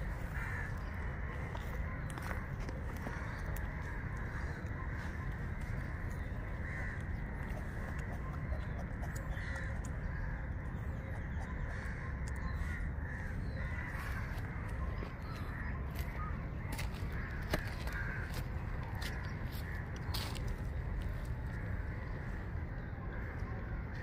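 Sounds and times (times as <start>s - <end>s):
birds calling: 0.0s - 24.0s
steady low rumble: 0.0s - 24.0s.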